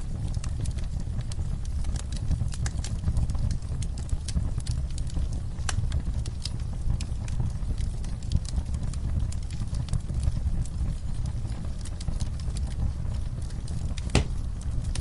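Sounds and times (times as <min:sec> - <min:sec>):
fire crackling and popping: 0:00.0 - 0:15.0
low steady rumble: 0:00.0 - 0:15.0.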